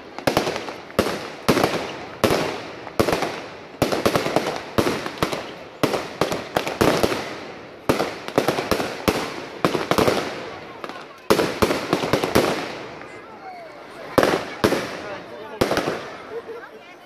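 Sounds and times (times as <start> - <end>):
firework bangs: 0.0 - 13.4, 14.0 - 16.5
firework crackling: 0.0 - 16.7.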